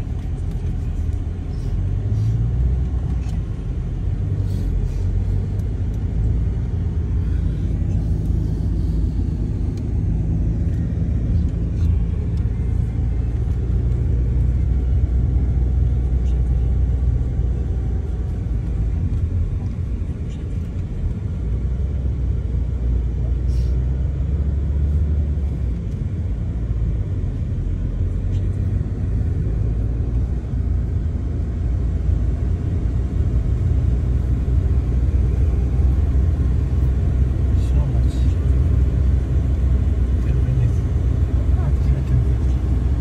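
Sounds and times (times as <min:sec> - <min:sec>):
car engine and tyres rumbling: 0:00.0 - 0:43.0.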